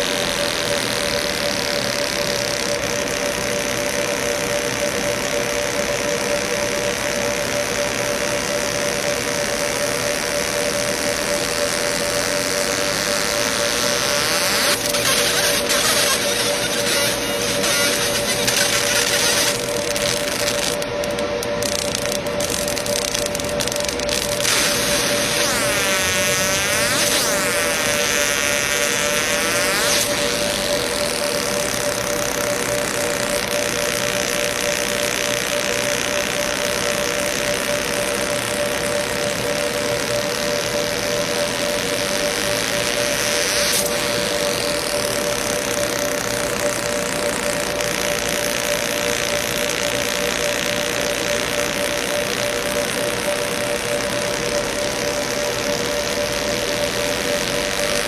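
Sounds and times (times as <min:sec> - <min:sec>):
laser engraver buzzing hum: 0:00.0 - 0:58.0.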